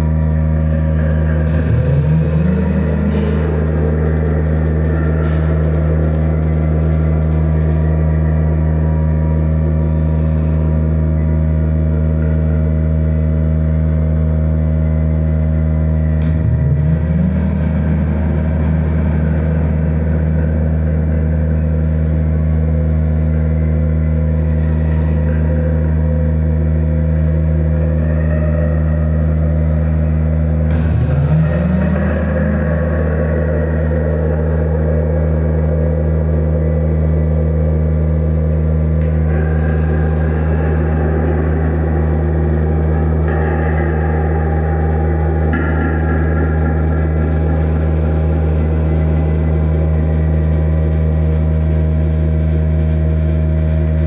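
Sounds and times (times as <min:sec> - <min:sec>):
low drone of held tones: 0:00.0 - 0:54.0.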